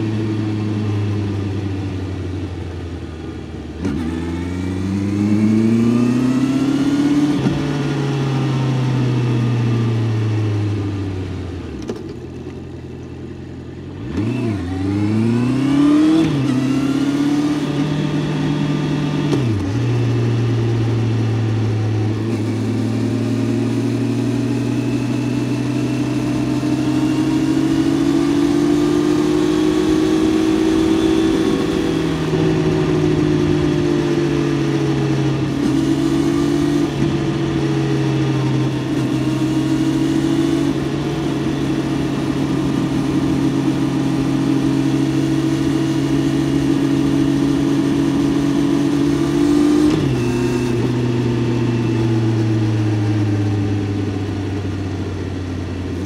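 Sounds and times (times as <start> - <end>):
motorcycle engine revving: 0.0 - 12.6, 13.5 - 56.0.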